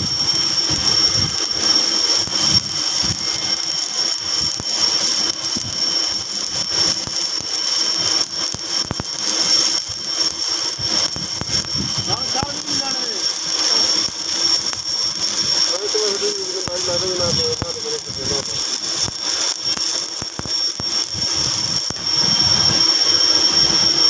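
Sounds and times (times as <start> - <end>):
high-pitched whine: 0.0 - 24.0
welding arc crackling: 0.0 - 24.0.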